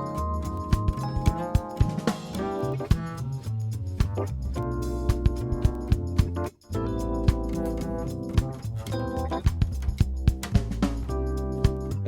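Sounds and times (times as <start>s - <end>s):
drum kit playing: 0.0s - 12.0s
jazz bass line: 0.0s - 12.0s.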